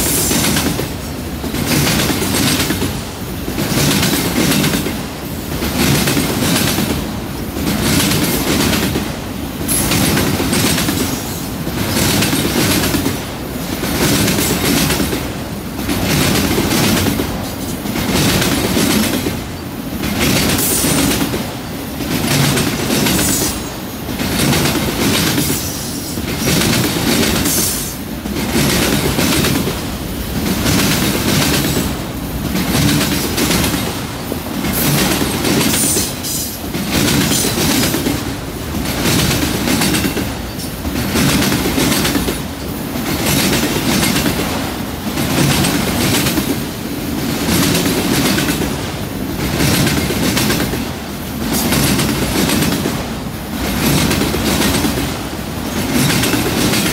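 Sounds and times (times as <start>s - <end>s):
freight train wheels clattering: 0.0s - 56.9s.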